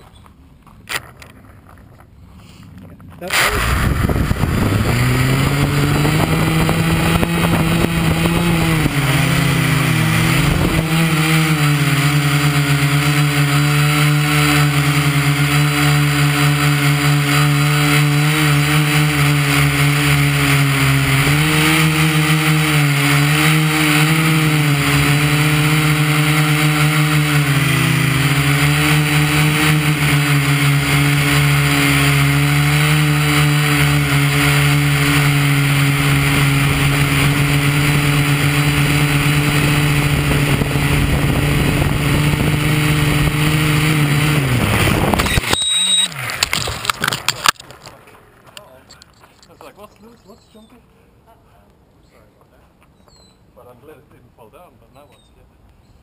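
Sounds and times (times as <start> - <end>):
drone propellers humming: 3.3 - 48.4.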